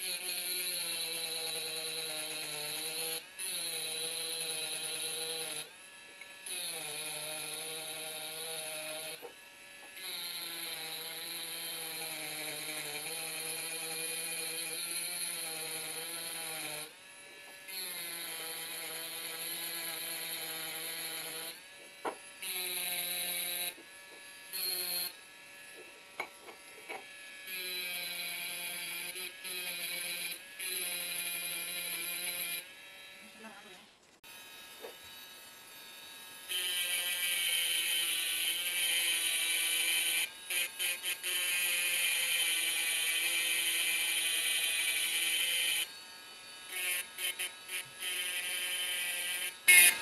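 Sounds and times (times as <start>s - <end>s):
rotary tool grinding glass: 0.0s - 33.6s, 34.3s - 50.0s.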